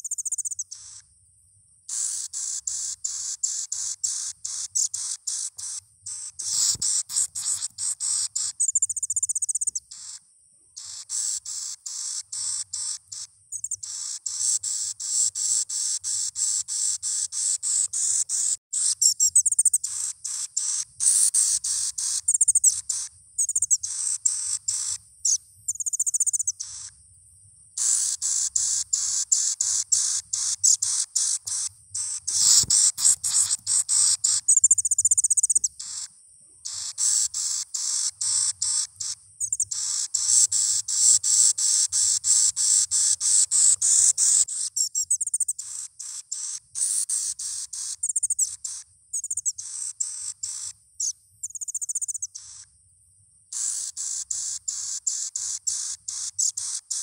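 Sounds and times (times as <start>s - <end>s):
high thin bird chirping: 0.0s - 1.1s, 1.9s - 10.2s, 10.8s - 27.0s, 27.7s - 52.7s, 53.5s - 57.0s.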